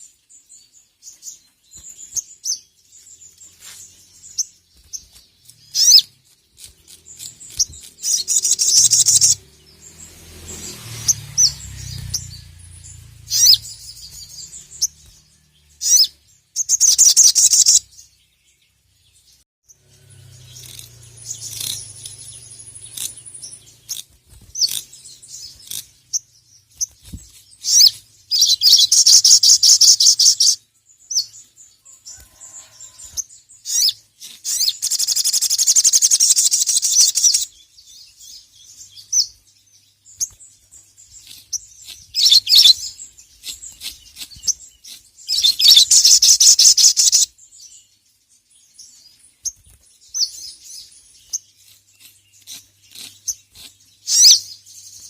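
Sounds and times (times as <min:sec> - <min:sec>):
sunbird chirping and trilling: 0:00.0 - 0:55.0.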